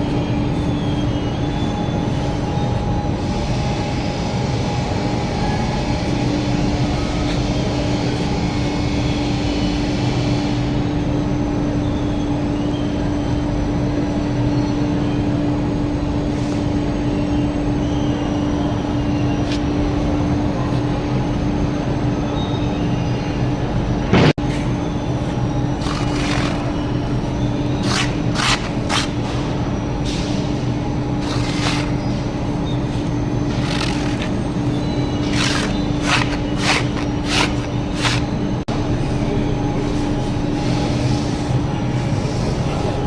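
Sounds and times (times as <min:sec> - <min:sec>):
mechanical drone: 0:00.0 - 0:43.0.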